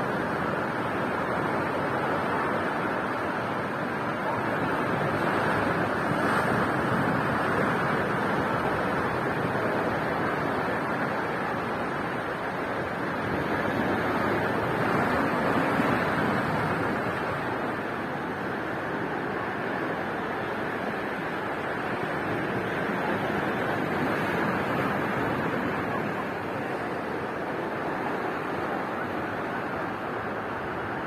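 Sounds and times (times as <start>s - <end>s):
sea surf breaking on shore: 0.0s - 31.0s.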